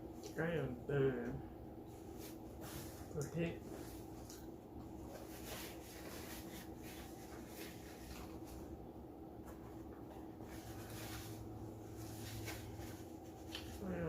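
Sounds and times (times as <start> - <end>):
faint rustling and handling noises: 0.0 - 14.0
low electrical hum: 0.0 - 14.0.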